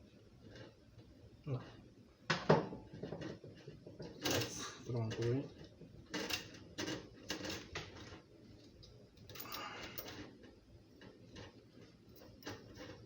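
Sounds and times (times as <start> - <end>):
faint clicks and rattling of fittings: 2.4 - 13.0.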